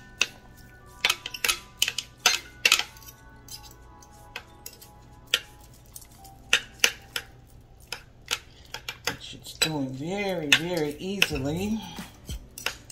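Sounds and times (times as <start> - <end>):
forks scraping a ceramic pot: 0.0 - 12.9.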